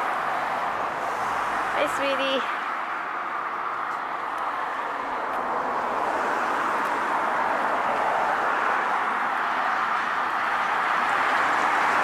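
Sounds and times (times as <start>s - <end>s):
distant road traffic: 0.0s - 12.0s.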